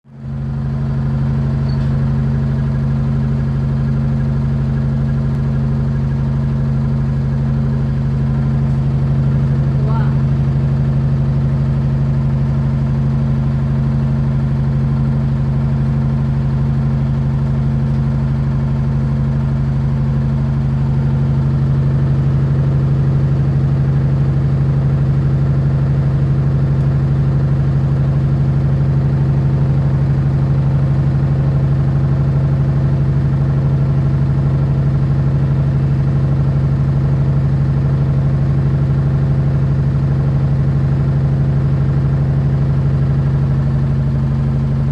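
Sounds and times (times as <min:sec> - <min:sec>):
washing machine low drone: 0:00.1 - 0:44.9.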